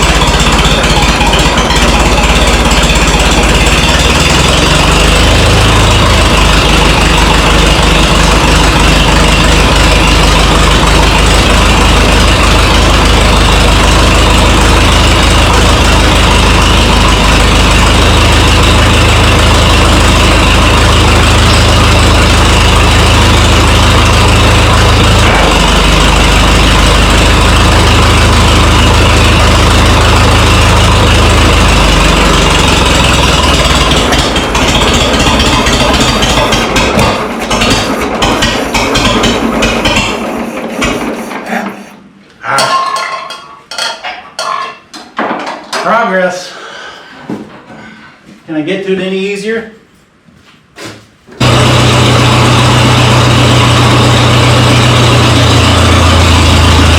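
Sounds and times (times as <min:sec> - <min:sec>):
tractor engine running: 0:00.0 - 0:41.9, 0:51.4 - 0:56.9.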